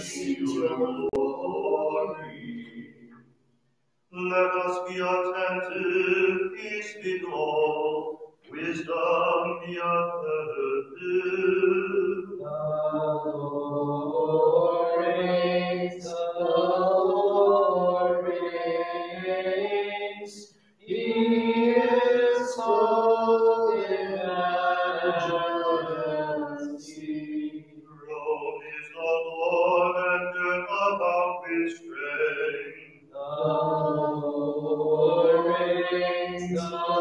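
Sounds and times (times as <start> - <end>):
liturgical chant: 0.0 - 3.2, 4.1 - 37.0.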